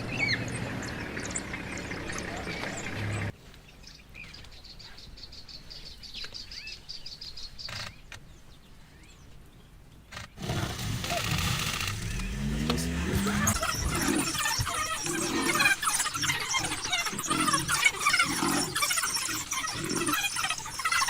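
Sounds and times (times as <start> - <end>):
birds chirping and calling: 0.0 - 9.4, 10.7 - 21.0
outdoor background noise: 0.0 - 21.0.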